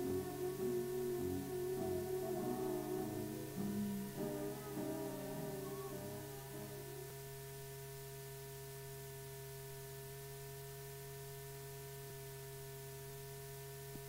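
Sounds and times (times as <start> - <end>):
faint high steady tones: 0.0 - 14.0
film soundtrack hiss: 0.0 - 14.0
low electrical hum: 0.0 - 14.0.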